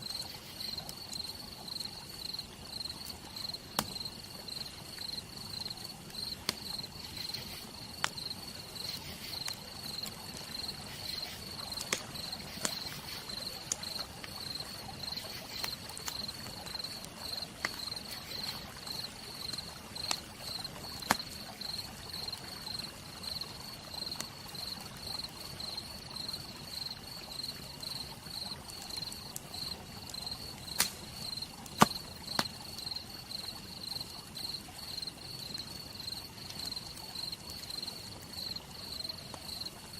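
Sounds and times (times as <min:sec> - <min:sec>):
wood fire crackling and popping: 0:00.0 - 0:22.9, 0:28.5 - 0:33.6, 0:34.2 - 0:39.9
cricket chirping: 0:00.0 - 0:39.9
soft steady hiss: 0:00.0 - 0:39.9.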